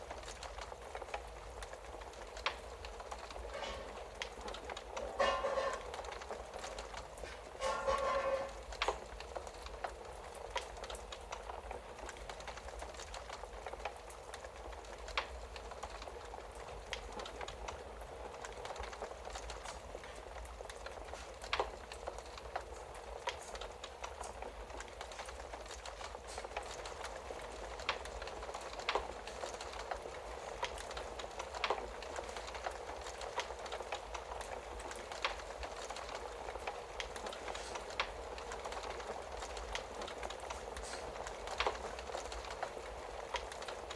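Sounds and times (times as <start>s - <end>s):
sharp pops of fire: 0.0s - 43.9s
wood fire crackling: 0.0s - 43.9s.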